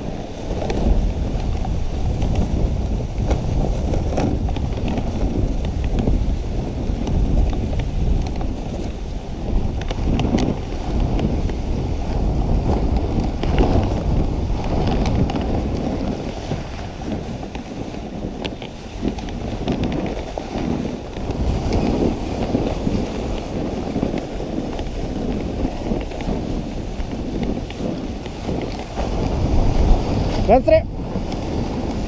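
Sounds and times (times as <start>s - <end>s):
sled runners rasping on snow: 0.0s - 32.0s
wind rumbling on microphone: 0.0s - 32.0s.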